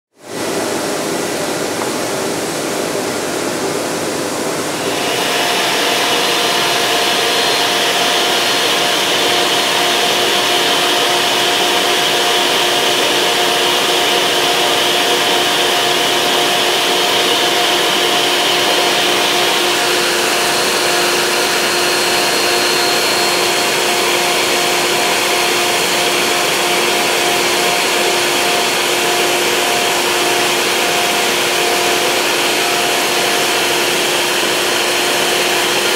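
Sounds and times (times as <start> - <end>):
electric engraving pen whining: 4.7 - 35.9.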